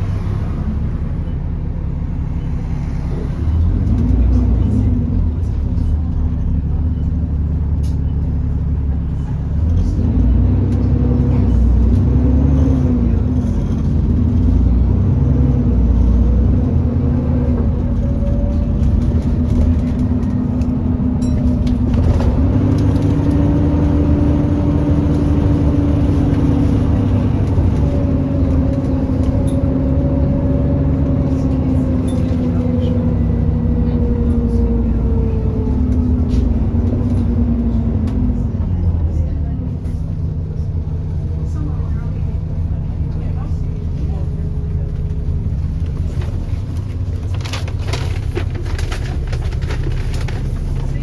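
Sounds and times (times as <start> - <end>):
bus engine rumble: 0.0 - 51.0.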